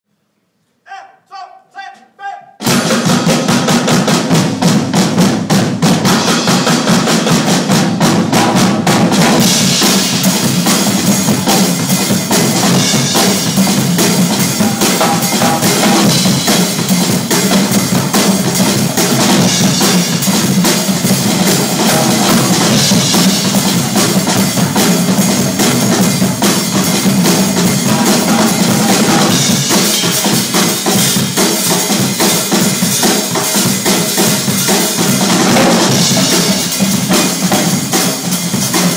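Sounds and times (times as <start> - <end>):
group drumming fast rhythm: 2.6 - 38.9.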